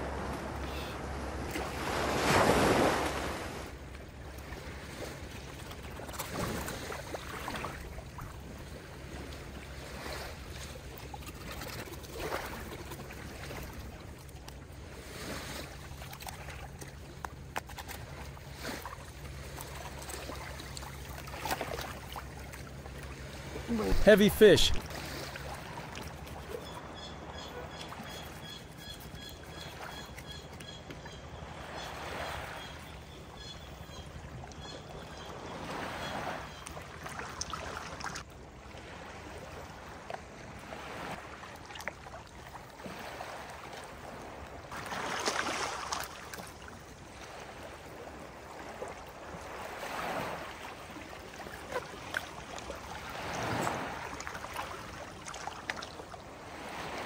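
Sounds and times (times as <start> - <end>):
sea water washing on shore: 0.0 - 30.2, 34.9 - 57.0.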